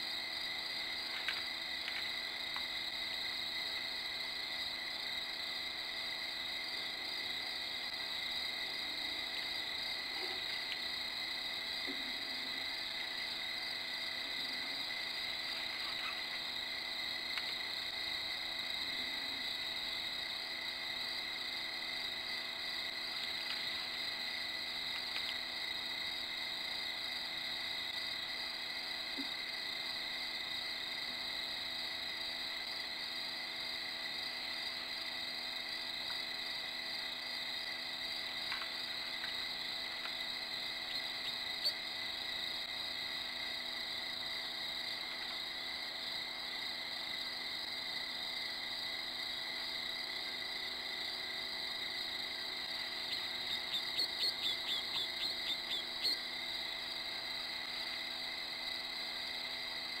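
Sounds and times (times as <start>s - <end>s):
insects and frogs chorus: 0.0s - 60.0s.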